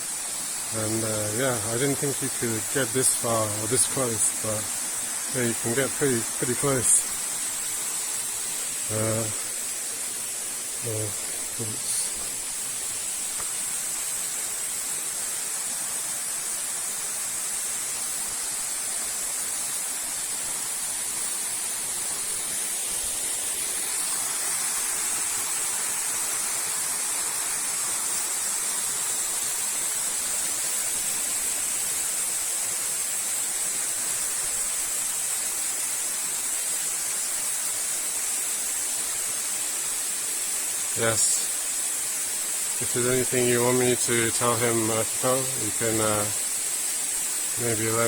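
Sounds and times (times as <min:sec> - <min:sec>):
small waterfall splashing: 0:00.0 - 0:48.0.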